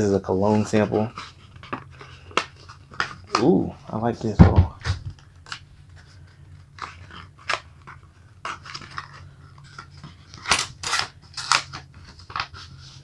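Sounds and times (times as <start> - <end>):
paper crinkling: 0.0 - 13.0.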